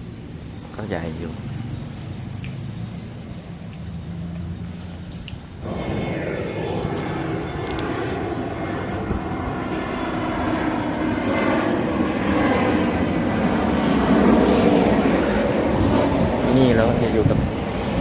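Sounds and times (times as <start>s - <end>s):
jet airliner flying over: 0.0s - 18.0s.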